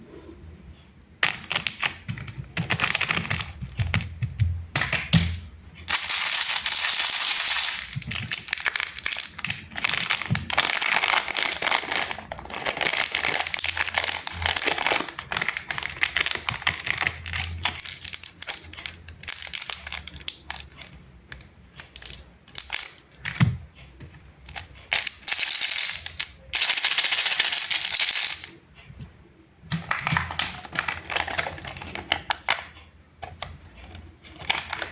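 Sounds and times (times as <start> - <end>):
plastic packaging crinkling: 1.2 - 4.1, 4.8 - 23.4, 24.5 - 28.6, 29.7 - 32.8, 34.2 - 34.9.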